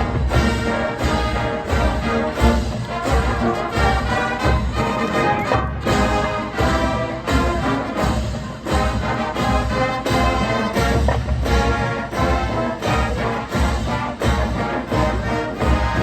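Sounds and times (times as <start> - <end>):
marching band brass: 0.0 - 16.0.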